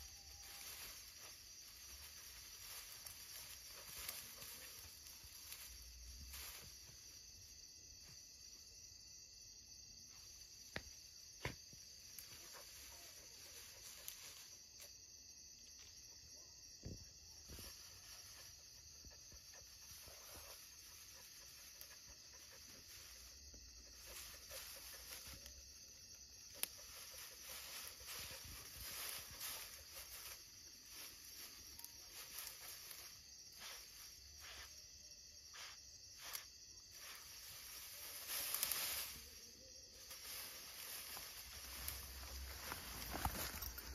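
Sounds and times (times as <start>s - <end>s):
night insects chorus: 0.0s - 43.9s.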